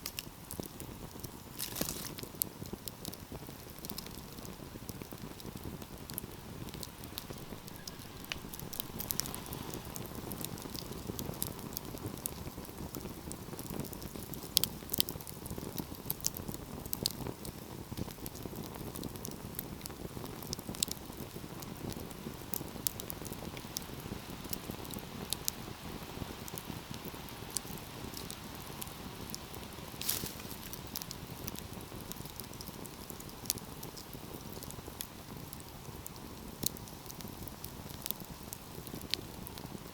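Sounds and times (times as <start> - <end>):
sharp pops of burning wood: 0.0 - 24.0, 26.5 - 39.9
low hiss of flames: 0.0 - 39.9
wood fire crackling: 0.0 - 39.9.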